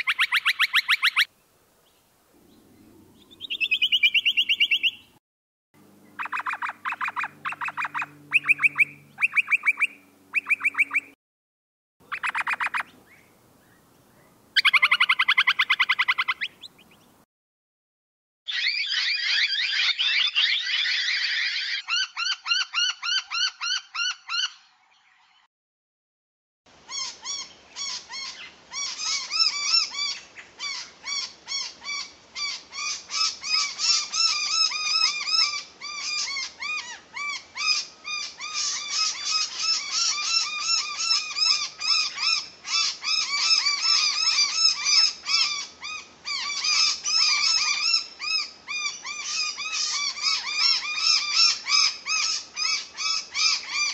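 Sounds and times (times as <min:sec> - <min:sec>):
birds calling rapidly: 0:00.0 - 0:05.2, 0:05.8 - 0:11.2, 0:12.0 - 0:17.2, 0:18.5 - 0:24.7, 0:26.8 - 0:53.9.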